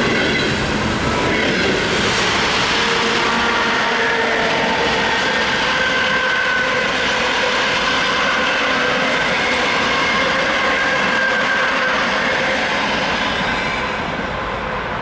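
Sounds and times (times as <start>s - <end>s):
train rolling past: 0.0s - 15.0s.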